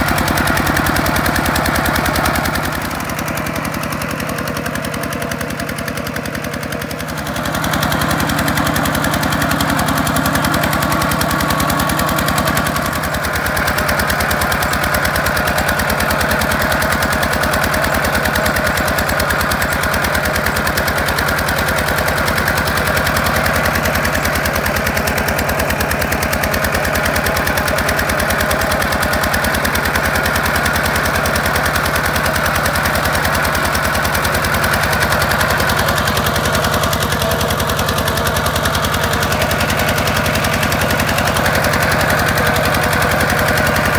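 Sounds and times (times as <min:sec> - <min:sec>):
diesel tractor engine chugging: 0:00.0 - 0:43.9.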